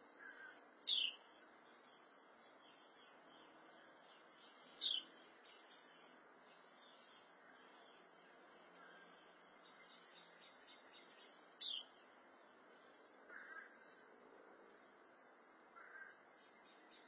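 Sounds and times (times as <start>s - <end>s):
bird chirp: 0.0s - 17.0s.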